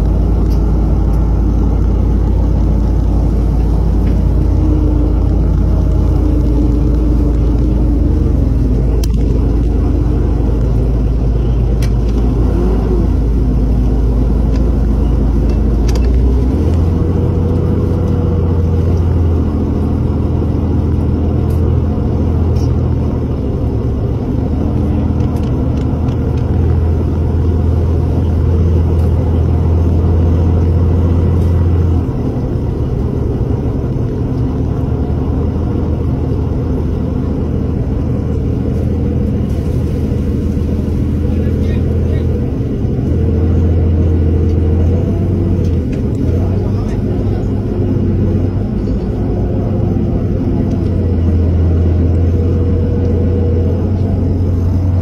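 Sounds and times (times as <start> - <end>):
boat engine rumbling: 0.0 - 55.0.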